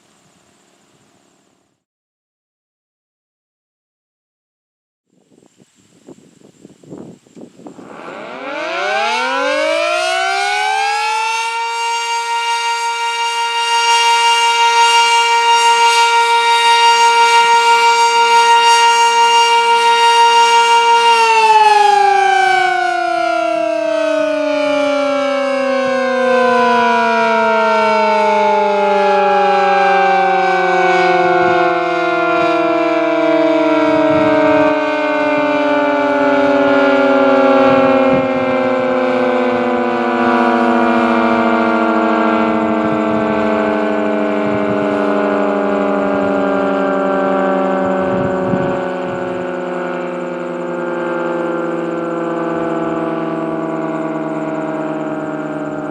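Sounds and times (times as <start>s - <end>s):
civil defence siren: 0.0s - 1.9s, 6.9s - 55.9s.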